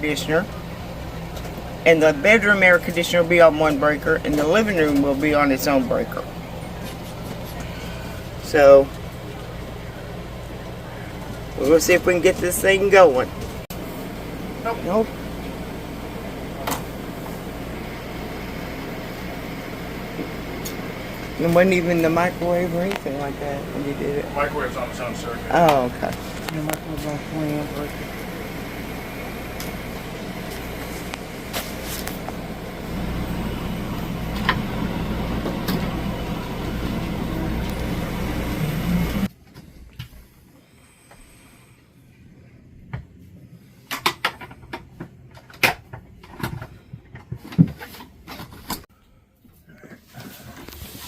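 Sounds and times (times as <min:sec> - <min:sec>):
machine hum with fan-like hiss: 0:00.0 - 0:51.0.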